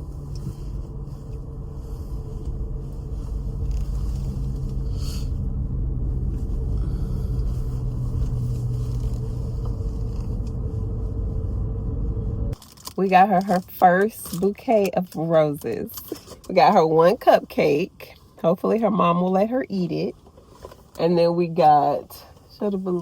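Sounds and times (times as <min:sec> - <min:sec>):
car interior engine and road noise: 0:00.0 - 0:23.0.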